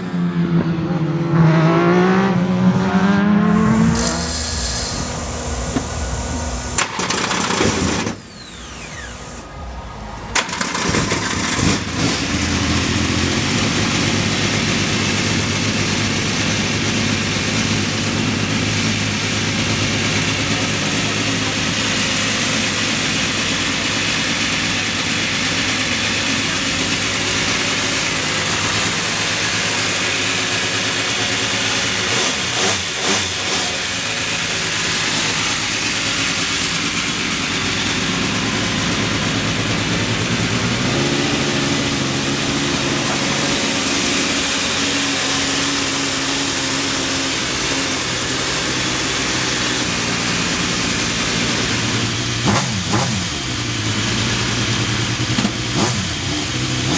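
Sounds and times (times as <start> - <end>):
race car engine idling: 2.0 - 56.9.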